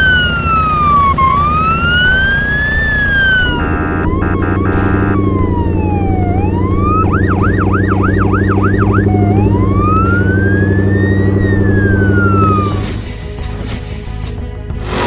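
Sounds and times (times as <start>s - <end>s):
emergency siren wailing and yelping: 0.0s - 12.7s.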